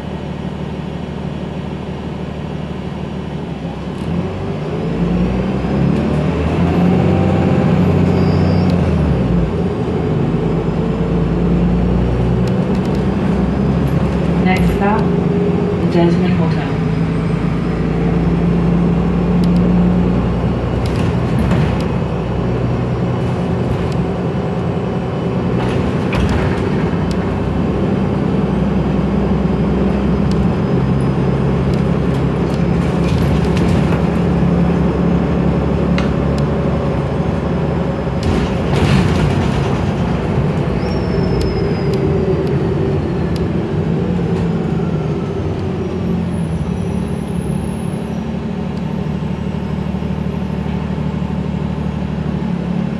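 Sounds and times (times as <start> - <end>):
bus engine hum: 0.0 - 52.9
tyre road noise: 0.0 - 52.9.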